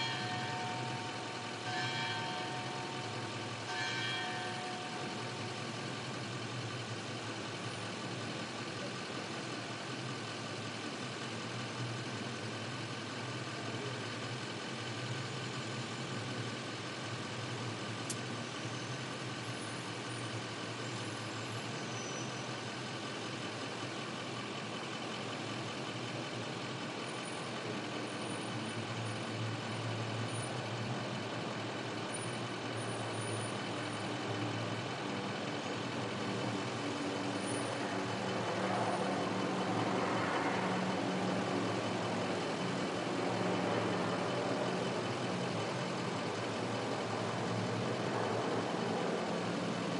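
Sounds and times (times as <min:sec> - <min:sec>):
vehicle engines idling: 0:00.0 - 0:49.9.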